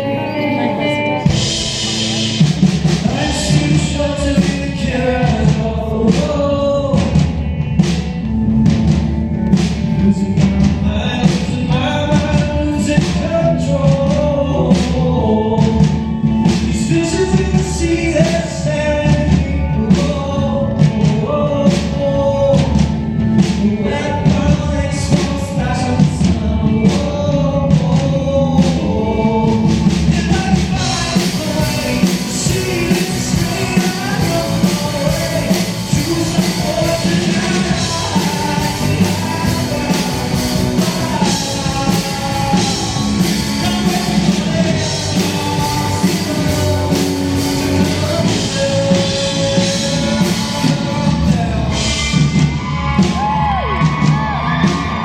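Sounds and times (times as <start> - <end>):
person singing: 0.0 - 8.8, 9.4 - 55.0
live pop-rock band: 0.0 - 55.0
steady drum beat: 1.2 - 55.0.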